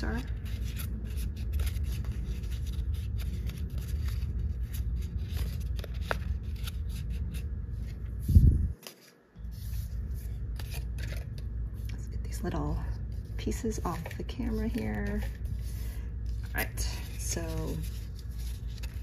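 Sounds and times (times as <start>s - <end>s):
cardstock crackling and rustling: 0.0s - 12.3s, 13.0s - 19.0s.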